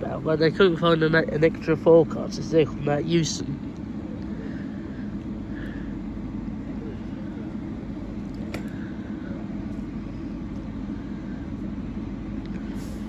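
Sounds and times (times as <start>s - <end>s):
railway platform rumble: 0.0s - 13.0s.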